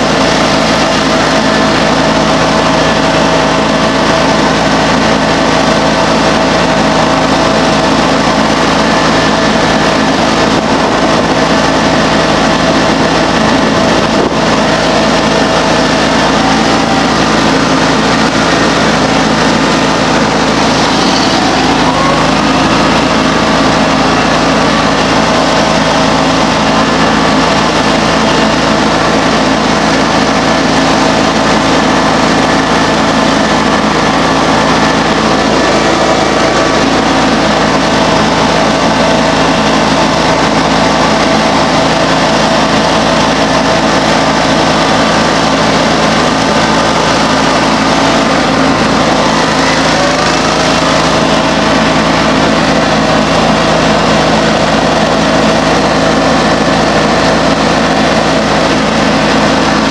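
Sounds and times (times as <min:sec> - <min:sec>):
garden tractor engine running: 0:00.0 - 0:59.9.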